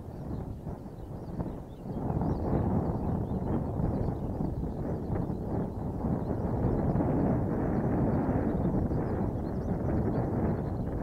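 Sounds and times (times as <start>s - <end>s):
distant turboprop aircraft drone: 0.0s - 11.0s
wind buffeting microphone: 0.0s - 11.0s.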